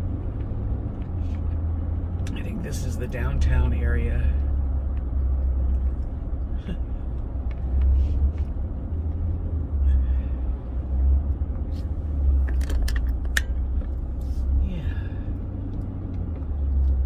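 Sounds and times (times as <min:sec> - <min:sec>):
car driving rumble inside cabin: 0:00.0 - 0:17.0.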